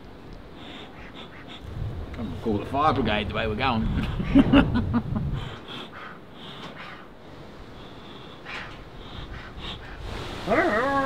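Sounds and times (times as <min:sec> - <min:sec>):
bellows puffing air: 0:00.4 - 0:03.0, 0:03.6 - 0:11.0.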